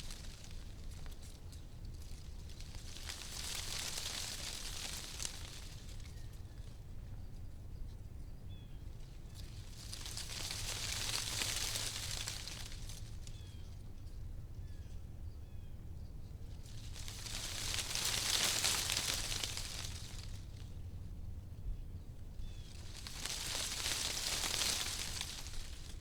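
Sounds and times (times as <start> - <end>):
wind rustling tree leaves: 0.0 - 7.6, 8.6 - 14.7, 16.2 - 26.0.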